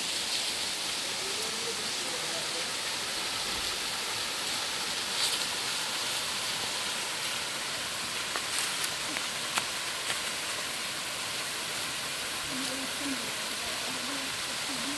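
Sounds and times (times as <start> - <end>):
waterfall splashing into pool: 0.0 - 14.9.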